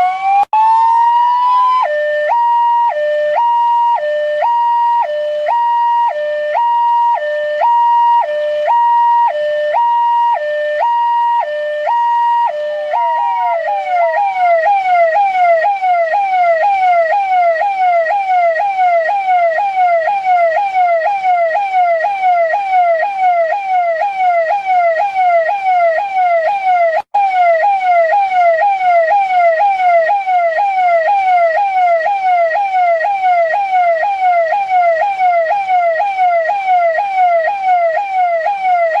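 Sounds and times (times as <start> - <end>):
electronic police siren: 0.0 - 39.0.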